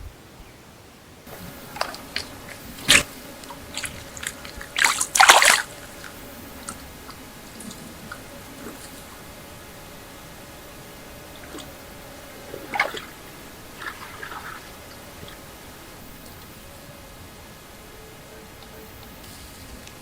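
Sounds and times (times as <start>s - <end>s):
faint steady hiss: 0.0s - 20.0s
water splashing: 1.3s - 20.0s.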